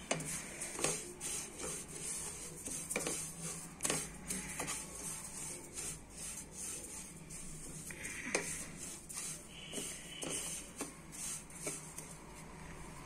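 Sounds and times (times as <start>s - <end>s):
spatula scraping seeds in pan: 0.0s - 12.5s.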